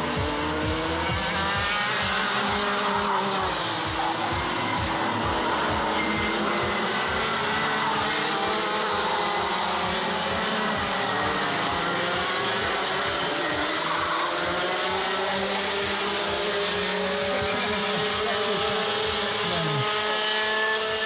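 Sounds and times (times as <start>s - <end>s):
racing kart engines: 0.0s - 21.0s.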